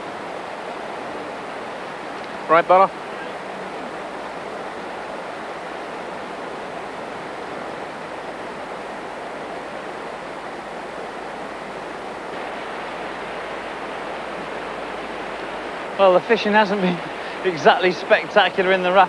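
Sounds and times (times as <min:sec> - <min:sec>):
river rapids rushing over rocks: 0:00.0 - 0:19.0.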